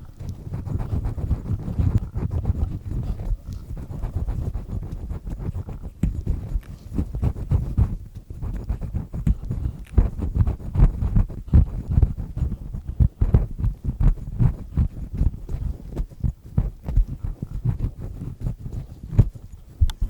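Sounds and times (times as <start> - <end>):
earpick scraping microphone: 0.0 - 20.0.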